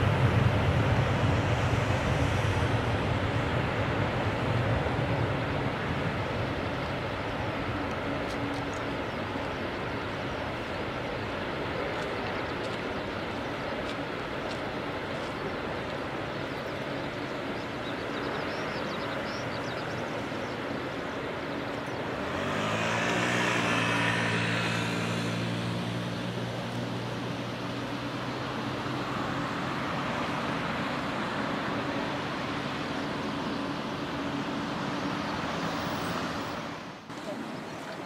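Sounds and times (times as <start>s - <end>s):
jet engines roaring: 0.0s - 38.0s.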